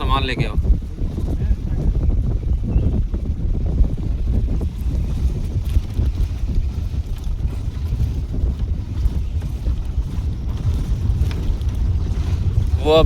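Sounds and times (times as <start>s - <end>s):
engine and tyres rumbling: 0.0s - 13.0s
wind buffeting microphone: 0.0s - 13.0s.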